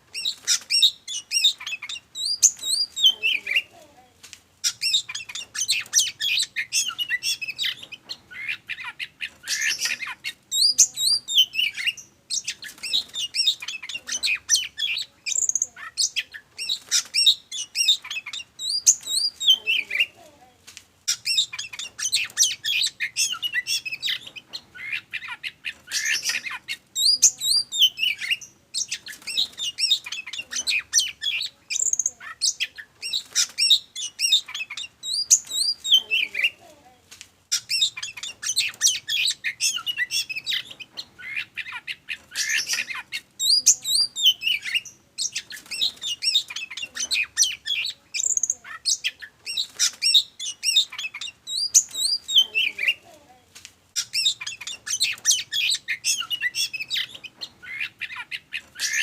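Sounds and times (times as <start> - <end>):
magpie-robin singing: 0.0 - 3.8, 4.6 - 20.3, 21.1 - 36.7, 37.5 - 53.2, 53.9 - 59.0.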